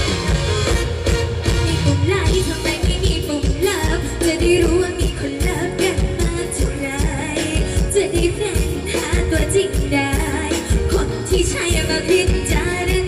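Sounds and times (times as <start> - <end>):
band playing steady beat: 0.0 - 13.0
woman singing into microphone: 1.6 - 13.0.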